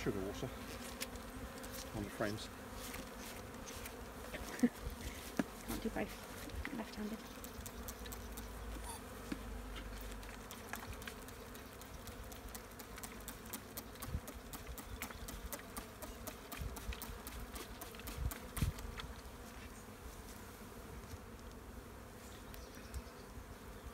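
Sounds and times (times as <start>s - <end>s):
honeybees buzzing: 0.0s - 23.9s.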